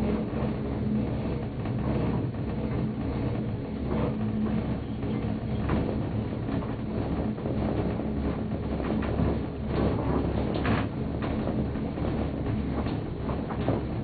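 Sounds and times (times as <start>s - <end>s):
gondola cabin hum and rattle: 0.0s - 14.0s.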